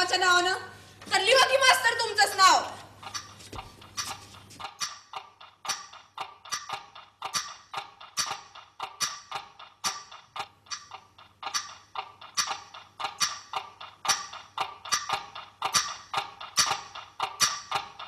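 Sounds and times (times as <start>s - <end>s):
rhythmic metallic ticking: 1.3s - 18.0s.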